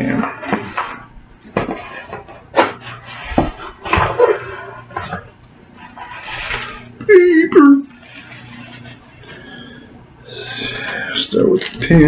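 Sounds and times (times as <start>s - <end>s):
packaging rustling and scraping: 0.4s - 7.0s, 7.9s - 9.8s, 10.4s - 12.0s.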